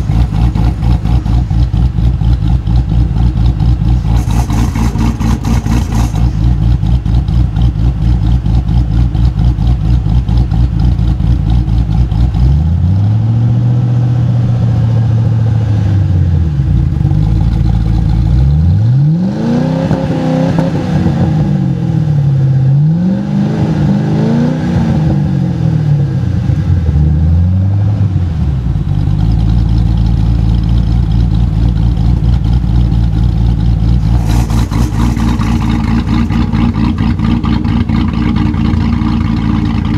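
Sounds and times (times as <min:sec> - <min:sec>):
vee eight engine idling and revving: 0:00.0 - 0:39.9.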